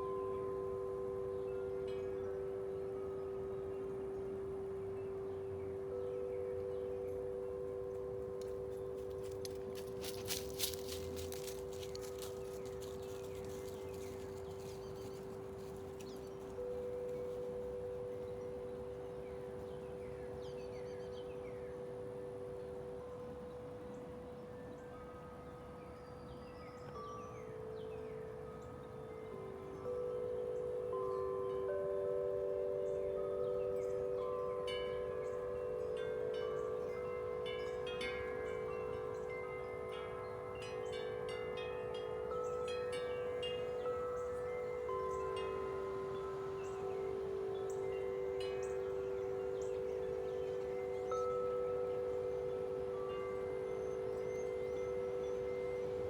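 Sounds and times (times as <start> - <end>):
large tubular wind chime ringing: 0.0 - 56.0.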